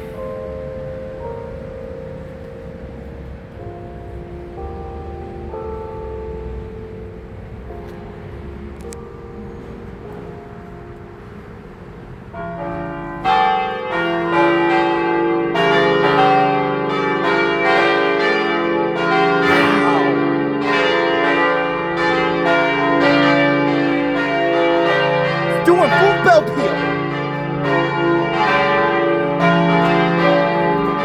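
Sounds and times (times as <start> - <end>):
church bells pealing: 0.0 - 31.0.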